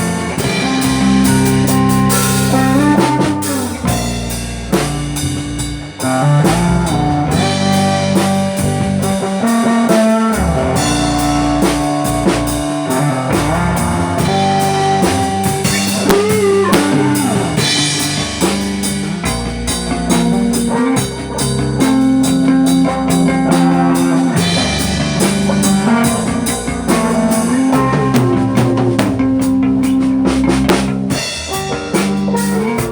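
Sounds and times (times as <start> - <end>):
blues-rock band playing: 0.0 - 32.9
drum kit beating: 0.0 - 32.9
guitar: 0.0 - 32.9.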